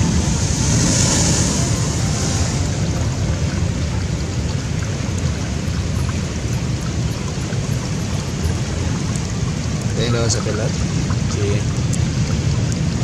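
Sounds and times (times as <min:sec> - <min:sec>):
sea surf rushing over rocks: 0:00.0 - 0:13.0
wind rumble on microphone: 0:00.0 - 0:13.0.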